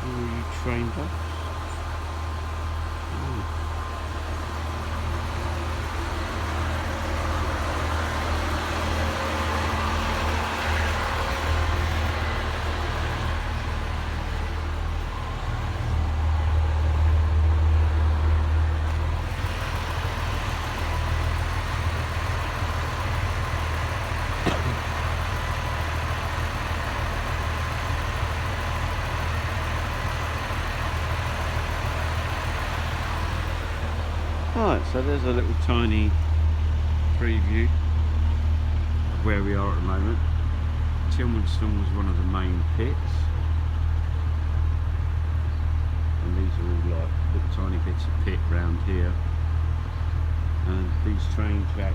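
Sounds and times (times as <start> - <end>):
diesel train engine idling: 0.0 - 51.9.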